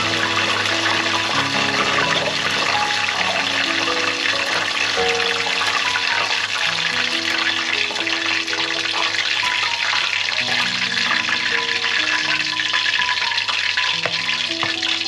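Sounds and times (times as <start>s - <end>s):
food deep-frying in hot oil: 0.0s - 15.0s
slow background music: 0.0s - 15.0s.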